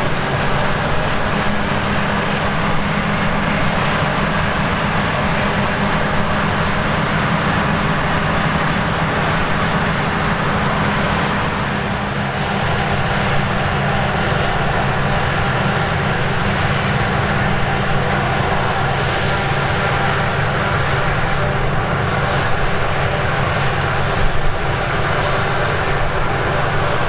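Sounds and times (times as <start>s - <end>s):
harvest machinery running: 0.0s - 27.0s.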